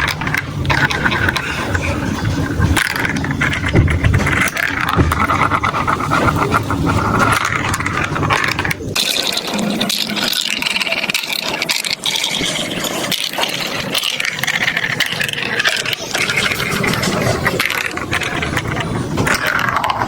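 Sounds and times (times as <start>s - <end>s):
marbles rolling down plastic track: 0.0s - 20.0s.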